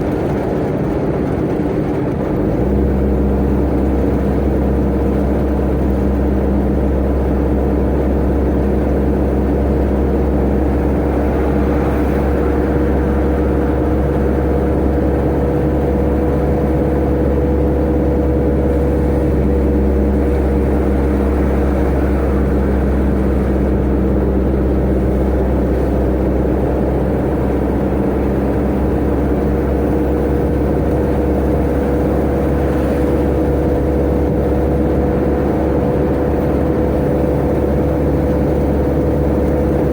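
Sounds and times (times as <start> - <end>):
road and drivetrain rumble: 0.0 - 39.9
truck engine running: 0.0 - 39.9.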